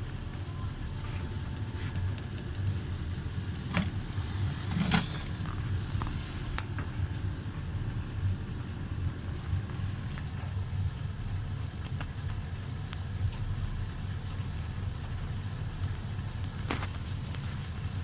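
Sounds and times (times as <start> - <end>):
washing machine low rumble: 0.0 - 18.0.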